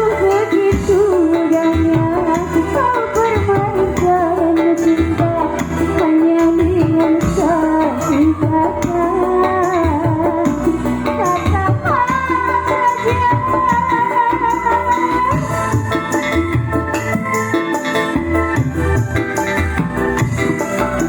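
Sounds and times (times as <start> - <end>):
song with ornamented melody: 0.0 - 21.0.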